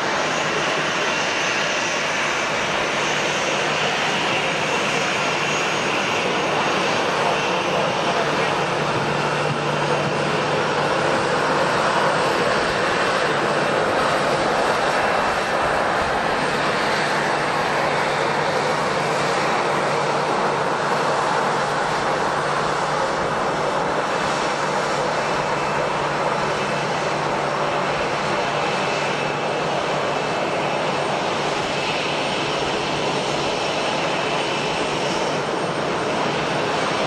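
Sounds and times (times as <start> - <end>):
jet engines running: 0.0 - 37.0
thin high engine whine: 0.0 - 37.0.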